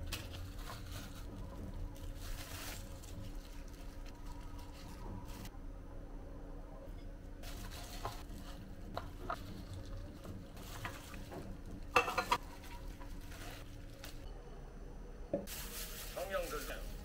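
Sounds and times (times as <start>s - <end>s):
plastic cling wrap crinkling: 0.0s - 5.5s, 7.4s - 14.3s, 15.5s - 17.0s.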